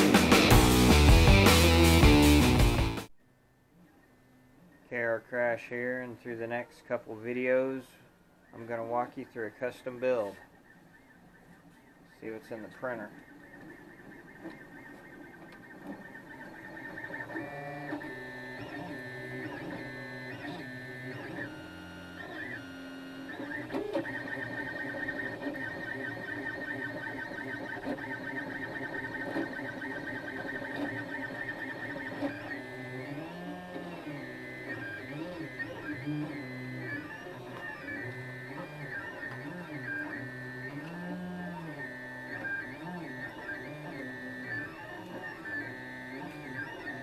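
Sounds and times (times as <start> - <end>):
stepper motors whining: 5.8 - 47.0.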